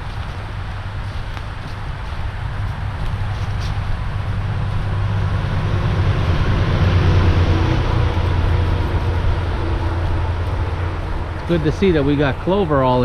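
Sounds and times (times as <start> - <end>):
motor vehicle passing: 0.0 - 13.0.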